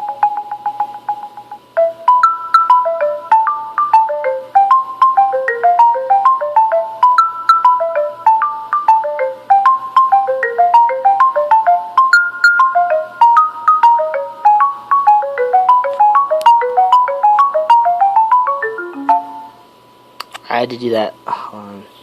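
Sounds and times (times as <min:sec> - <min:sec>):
phone ringtone tune: 0:00.0 - 0:19.7.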